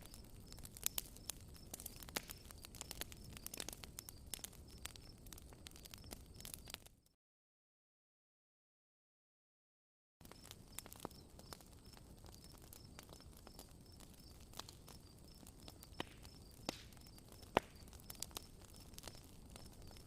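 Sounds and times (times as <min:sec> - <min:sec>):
campfire crackling and popping: 0:00.0 - 0:07.1, 0:10.2 - 0:20.0.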